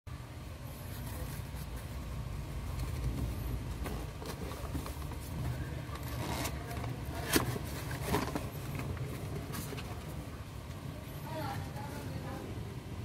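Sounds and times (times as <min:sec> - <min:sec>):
steady low hum: 0:00.1 - 0:13.0.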